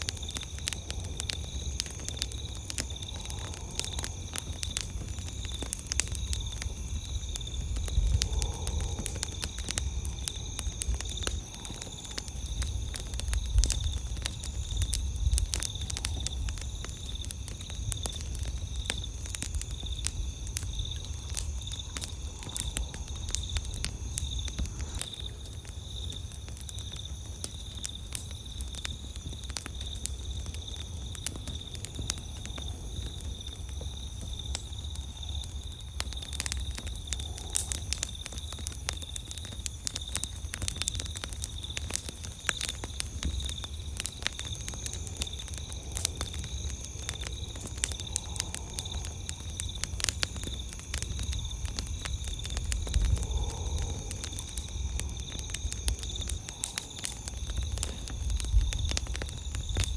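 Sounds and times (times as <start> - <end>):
campfire crackling and popping: 0.0 - 59.9
insects chirring: 0.0 - 59.9.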